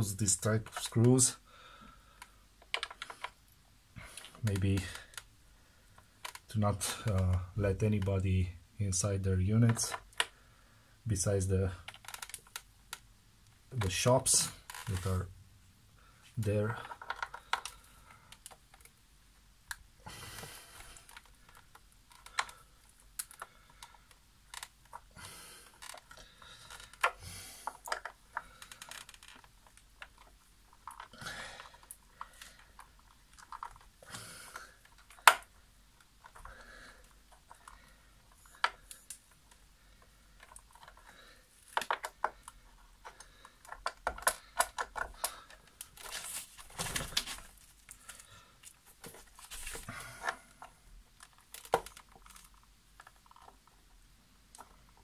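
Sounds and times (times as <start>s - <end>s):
plastic parts clicking and scraping: 0.3s - 1.3s, 2.2s - 5.3s, 5.9s - 8.2s, 9.6s - 10.4s, 11.8s - 13.1s, 13.7s - 15.2s, 16.3s - 19.0s, 20.4s - 55.0s.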